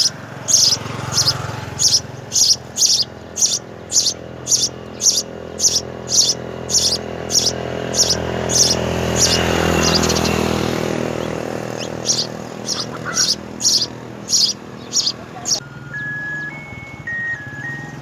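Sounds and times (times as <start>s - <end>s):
small bird chirping: 0.0s - 15.6s.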